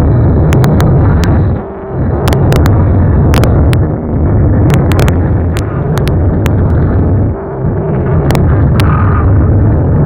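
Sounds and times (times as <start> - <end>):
sharp crackling clicks: 0.0 - 9.4
wind buffeting microphone: 0.0 - 10.0.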